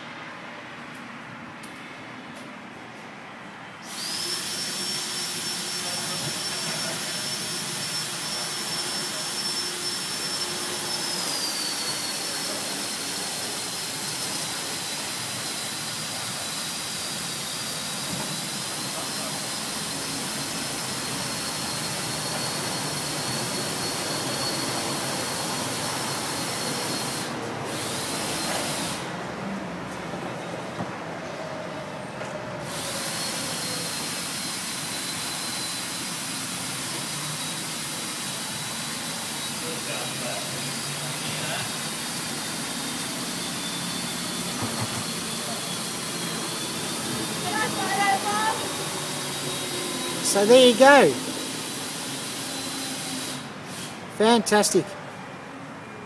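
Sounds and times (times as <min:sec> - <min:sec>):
electric winch whining: 0:03.8 - 0:29.2, 0:31.8 - 0:54.1.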